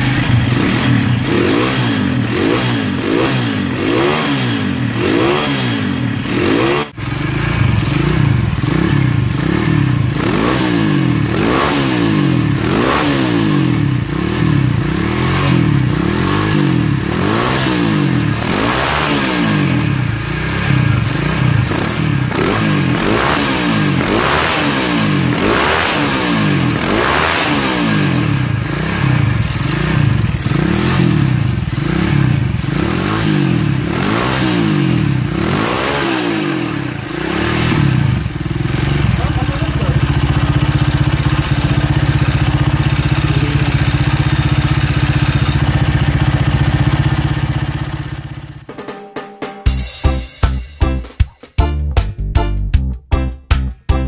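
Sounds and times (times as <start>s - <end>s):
motorcycle engine revving: 0.0s - 48.7s.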